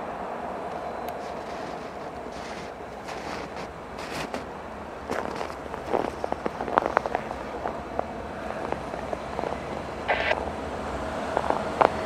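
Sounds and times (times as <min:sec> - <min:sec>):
diesel train rumbling: 0:00.0 - 0:12.0
wheels clicking on track: 0:00.6 - 0:12.0.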